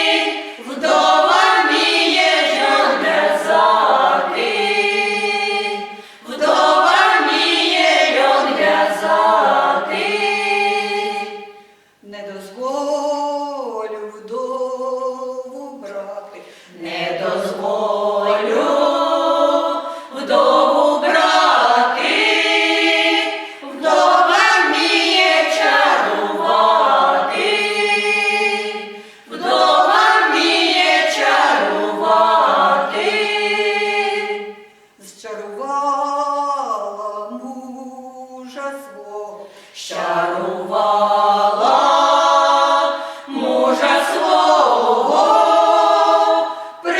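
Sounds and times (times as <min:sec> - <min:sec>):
vocal ensemble singing a cappella: 0:00.0 - 0:46.9.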